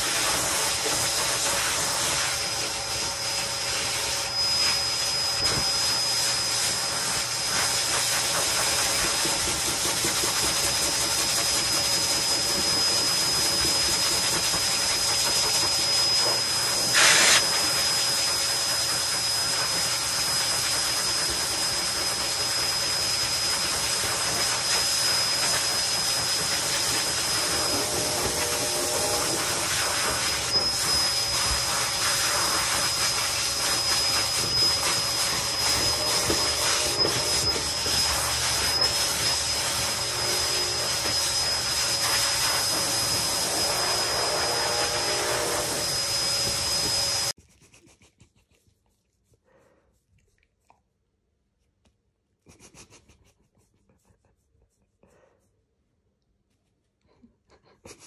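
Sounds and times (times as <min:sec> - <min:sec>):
vacuum motor air rush and whine: 0:00.0 - 0:47.4.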